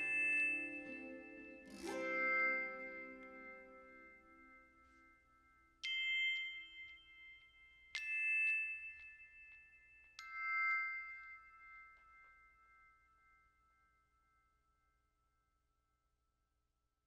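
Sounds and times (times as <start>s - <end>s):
slow bell-like struck notes: 0.0s - 14.4s.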